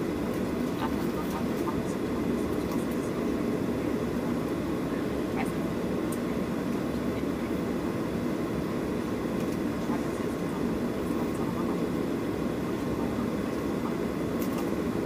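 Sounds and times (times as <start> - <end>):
jet cabin low rumble: 0.0 - 15.0.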